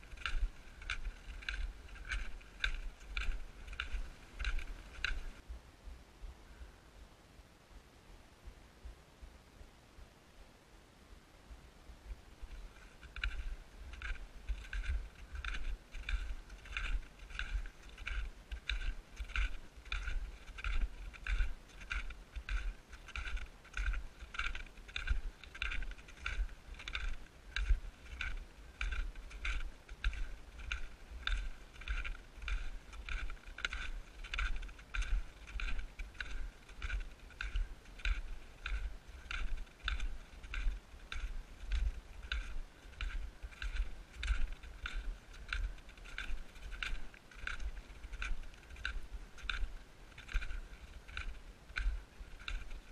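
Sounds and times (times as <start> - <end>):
footsteps crunching in snow: 0.0 - 5.4, 12.1 - 52.9.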